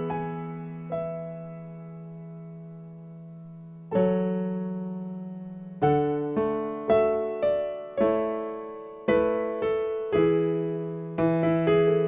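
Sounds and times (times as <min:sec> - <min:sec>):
digital piano chords: 0:00.0 - 0:12.0.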